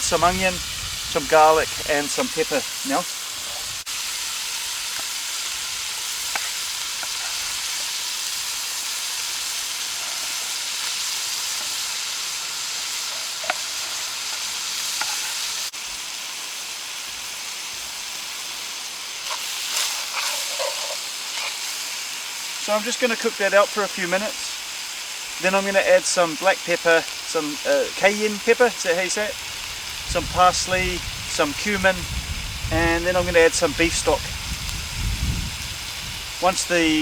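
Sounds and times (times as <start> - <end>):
meat sizzling in a pot: 0.0 - 37.0.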